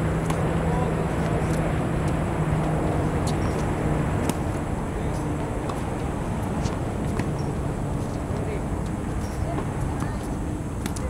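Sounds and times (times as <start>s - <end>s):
low outdoor rumble: 0.0s - 11.0s
tennis balls struck by rackets: 0.1s - 11.0s.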